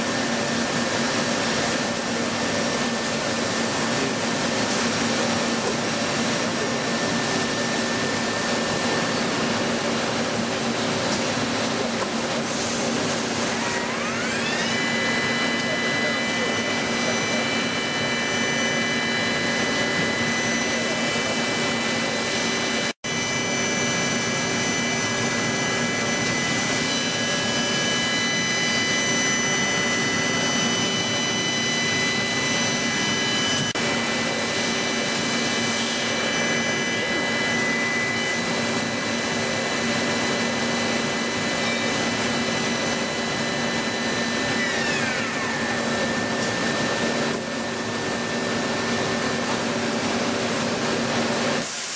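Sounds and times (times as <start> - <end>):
machine tool whine: 0.0 - 51.9.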